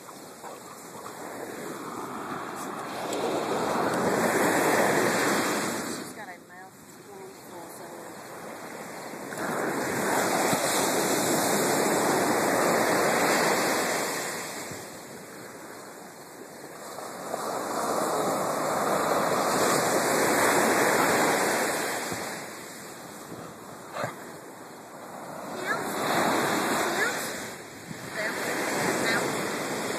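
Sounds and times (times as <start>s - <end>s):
ocean waves breaking on beach: 0.0s - 29.9s.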